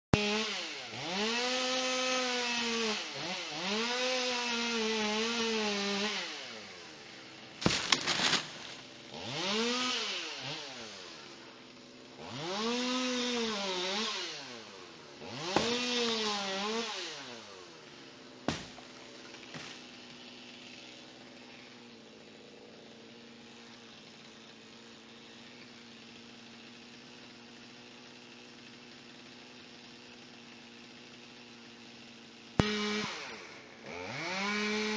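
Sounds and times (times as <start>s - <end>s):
chainsaw revving and idling: 0.1s - 34.9s.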